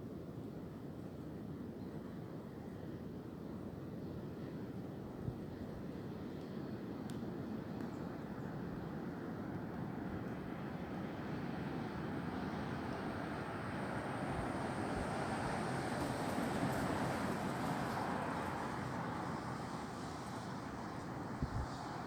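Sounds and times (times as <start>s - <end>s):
wind through tree branches: 0.2s - 22.0s.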